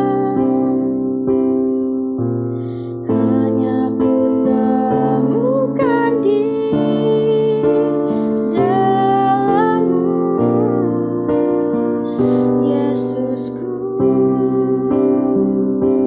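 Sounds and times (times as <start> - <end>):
woman singing worship song: 0.0 - 1.3, 3.0 - 16.0
piano chords: 0.0 - 16.0.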